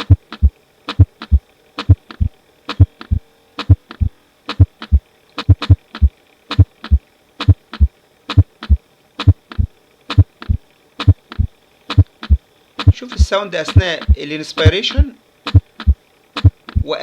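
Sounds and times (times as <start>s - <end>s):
heartbeat through stethoscope: 0.0s - 14.2s, 15.5s - 16.9s.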